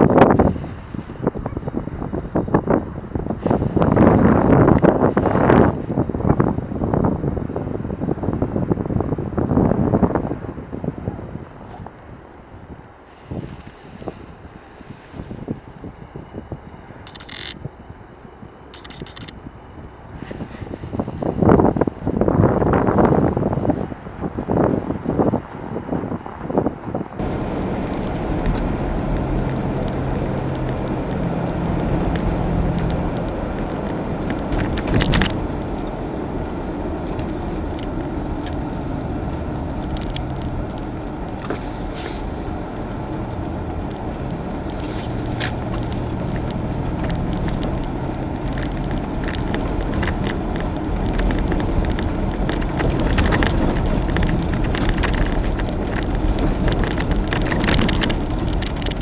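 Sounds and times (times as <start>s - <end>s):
tyres on packed snow: 0.0s - 6.0s, 10.8s - 17.5s, 20.0s - 59.0s
car engine rumble: 0.0s - 59.0s.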